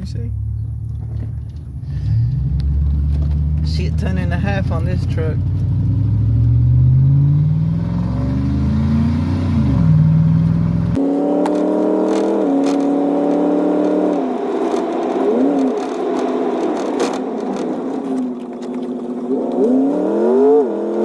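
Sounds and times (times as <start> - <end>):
truck engine accelerating: 0.0 - 21.0.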